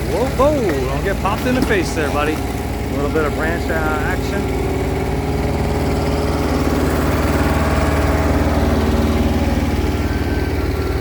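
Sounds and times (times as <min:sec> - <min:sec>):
heavy equipment engine rumbling: 0:00.0 - 0:11.0.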